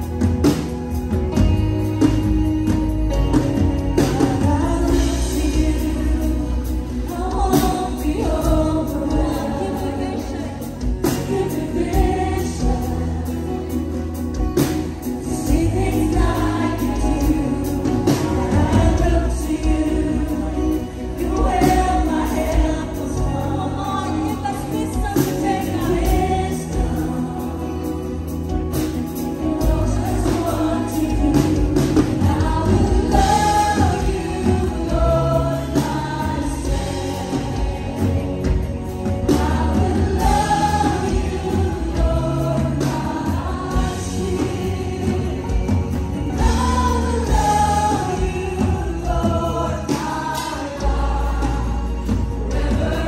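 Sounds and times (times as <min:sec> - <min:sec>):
acoustic and electric guitars: 0:00.0 - 0:53.0
drums: 0:00.0 - 0:53.0
keyboards: 0:00.0 - 0:53.0
singers singing together: 0:04.0 - 0:53.0.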